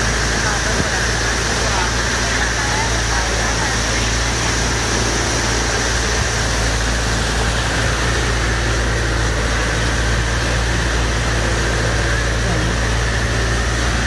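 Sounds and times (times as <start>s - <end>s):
pump engine running: 0.0s - 14.0s
water gushing onto pavement: 0.0s - 14.0s.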